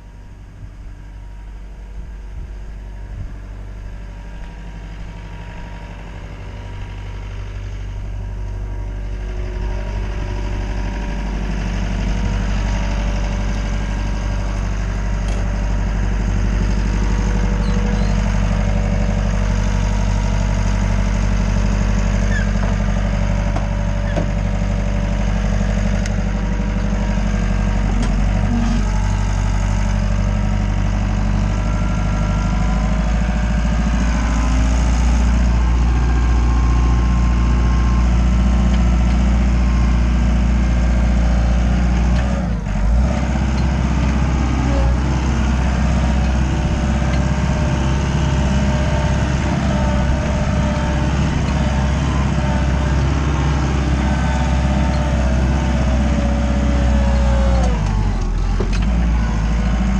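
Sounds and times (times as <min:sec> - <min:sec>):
skid steer engine running: 0:00.0 - 0:59.9.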